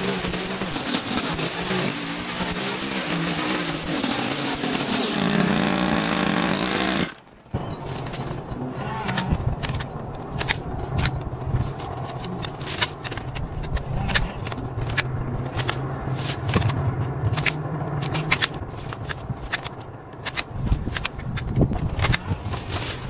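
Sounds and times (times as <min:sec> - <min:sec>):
dry debris rustling and snapping: 0:00.0 - 0:23.0.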